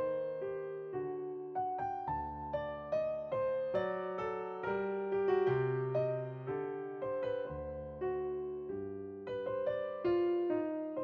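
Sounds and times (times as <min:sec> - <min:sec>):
slow piano piece: 0:00.0 - 0:11.0.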